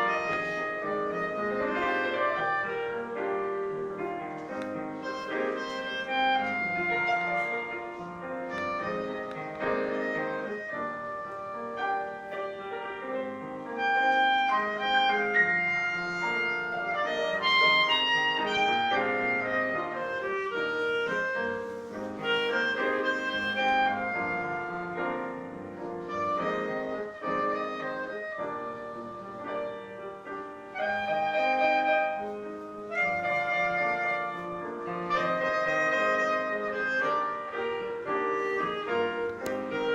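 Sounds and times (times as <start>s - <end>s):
piano accompaniment: 0.0s - 39.9s.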